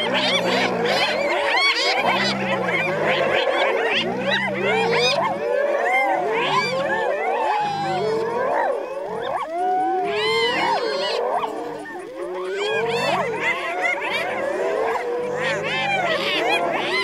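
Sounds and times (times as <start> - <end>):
hyenas calling: 0.0 - 17.0.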